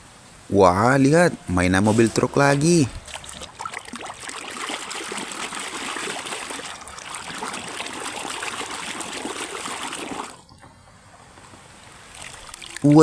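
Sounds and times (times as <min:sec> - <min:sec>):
running water splashing on toy: 0:01.1 - 0:10.5, 0:12.0 - 0:13.0.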